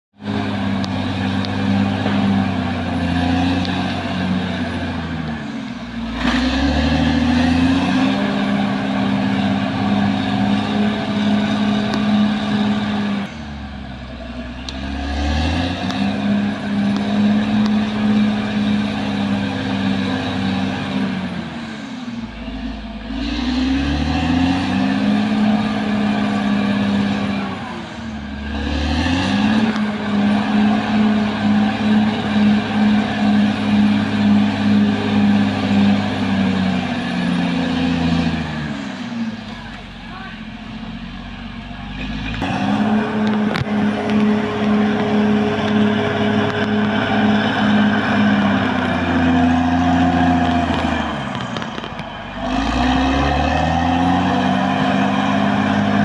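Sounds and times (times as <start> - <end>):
bulldozer diesel engine under load: 0.1 - 56.0.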